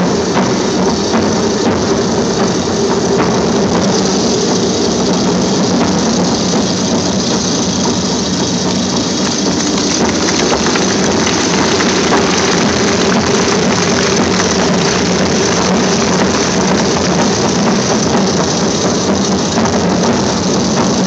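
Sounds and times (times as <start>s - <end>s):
propeller aeroplane engines droning: 0.0s - 21.0s.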